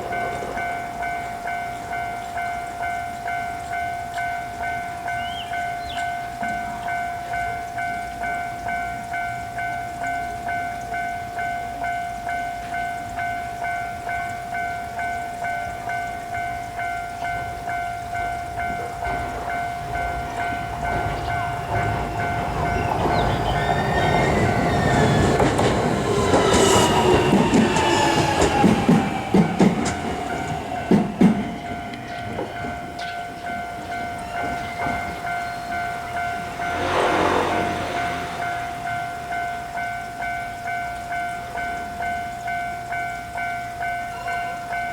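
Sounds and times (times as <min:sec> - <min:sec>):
level-crossing warning bell: 0:00.0 - 0:44.9
train running on rails: 0:00.0 - 0:44.9.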